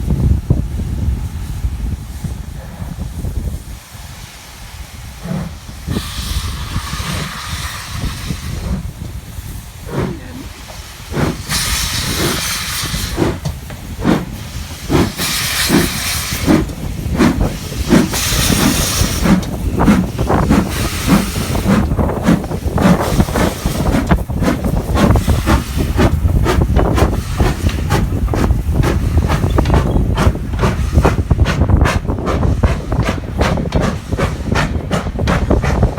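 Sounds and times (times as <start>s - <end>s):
steam hissing: 0.0s - 35.9s
steam locomotive exhaust chuffs: 0.0s - 35.9s.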